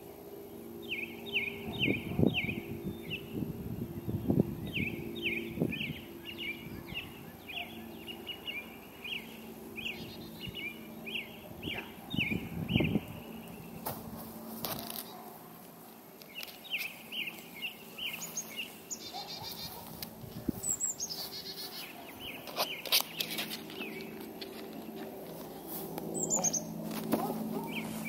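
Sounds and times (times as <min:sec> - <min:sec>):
songbirds chirping: 0:00.0 - 0:28.0
bird trills: 0:00.5 - 0:13.9, 0:16.3 - 0:28.0.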